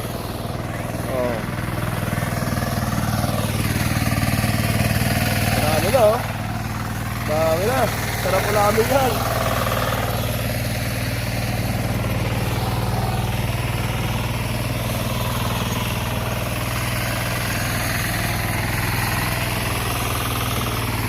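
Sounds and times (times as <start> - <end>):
diesel hand tractor engine running: 0.0 - 21.0.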